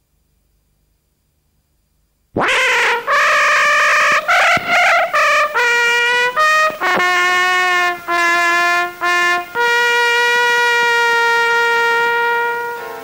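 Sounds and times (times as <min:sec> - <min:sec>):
brass fanfare: 0:02.4 - 0:13.0.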